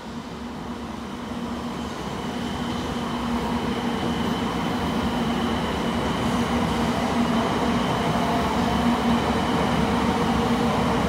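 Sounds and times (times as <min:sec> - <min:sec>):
electric train hum and whine: 0:00.0 - 0:11.0.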